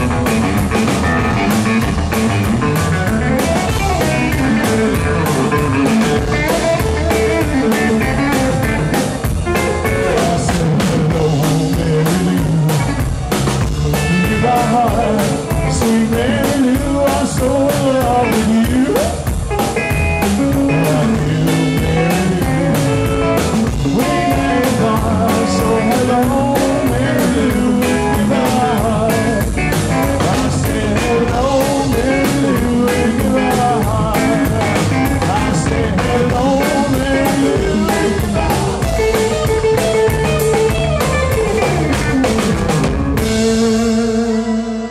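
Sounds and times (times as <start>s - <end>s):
driving drum beat: 0.0s - 44.9s
rockabilly trio playing: 0.0s - 44.9s.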